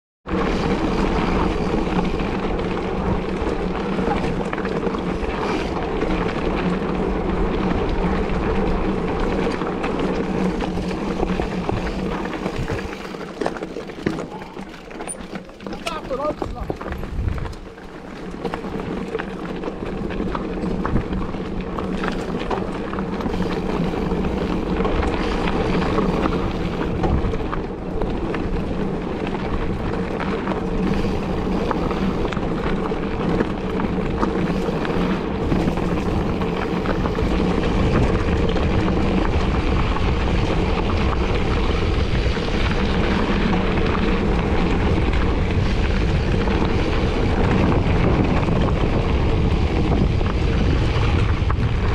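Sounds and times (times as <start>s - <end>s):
wind rushing over microphone: 0.2s - 15.0s, 15.7s - 51.9s
tyres rolling over dirt trail: 0.2s - 51.9s.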